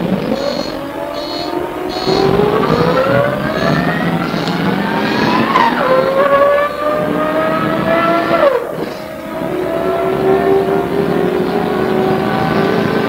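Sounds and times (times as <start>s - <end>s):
bus diesel engine whining: 0.0s - 13.0s.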